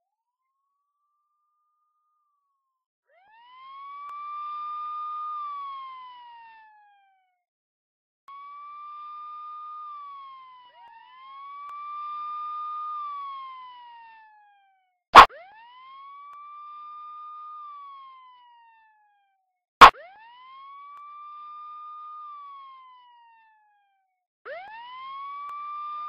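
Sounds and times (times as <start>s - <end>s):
electronic wail siren: 3.1s - 7.4s, 8.3s - 26.0s.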